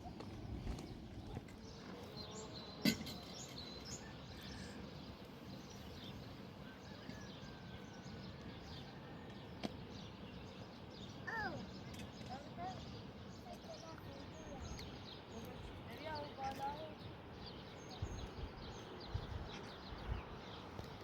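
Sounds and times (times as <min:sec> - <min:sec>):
outdoor ambient noise: 0:00.0 - 0:21.0.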